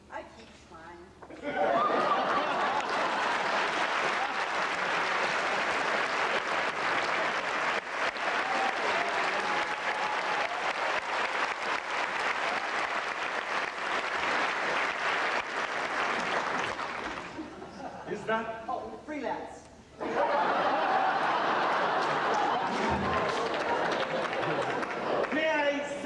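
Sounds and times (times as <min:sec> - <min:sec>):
audience applauding: 0:01.7 - 0:17.6, 0:20.2 - 0:26.0.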